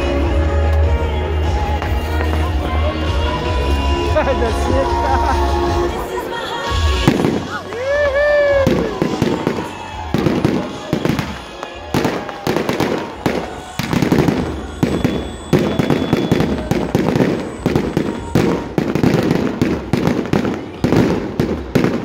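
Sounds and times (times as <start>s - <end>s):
fireworks bursting with echo: 4.0s - 22.0s.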